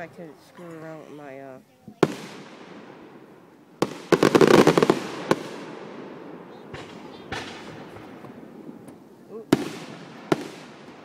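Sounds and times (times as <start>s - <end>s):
fireworks bangs: 0.0s - 11.0s
fireworks crackling pops: 1.8s - 11.0s.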